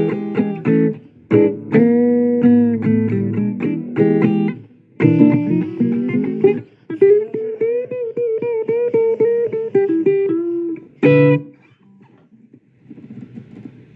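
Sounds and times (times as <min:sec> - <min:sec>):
blues guitar playing: 0:00.0 - 0:12.4.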